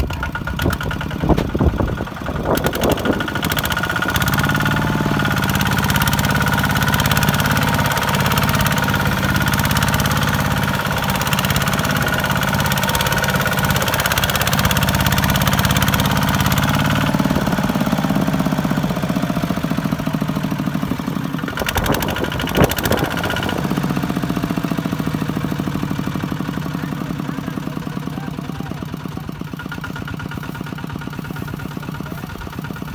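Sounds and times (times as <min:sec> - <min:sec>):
diesel tractor engine under load: 0:00.0 - 0:32.9.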